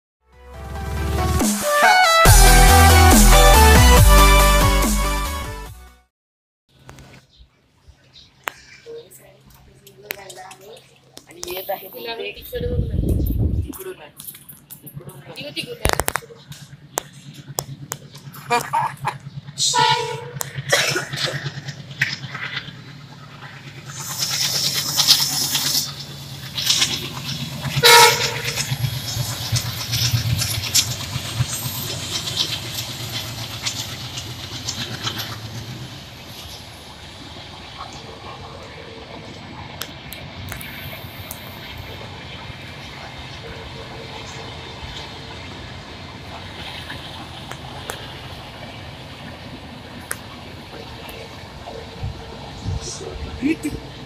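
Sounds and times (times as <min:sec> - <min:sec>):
diesel locomotive engine rumbling: 0:00.3 - 0:05.7, 0:08.4 - 0:54.0.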